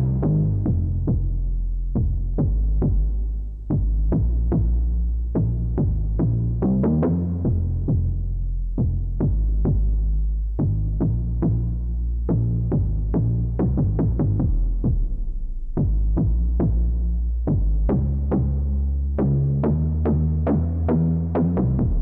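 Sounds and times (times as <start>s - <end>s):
low synth bass: 0.0s - 22.0s.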